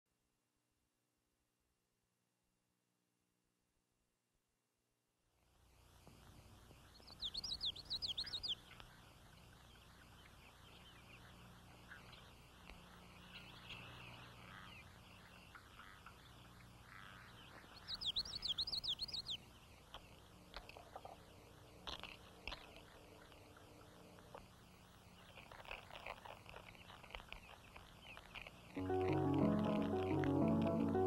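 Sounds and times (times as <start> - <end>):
faint steady hiss: 5.3 - 31.0
songbird singing: 5.8 - 31.0.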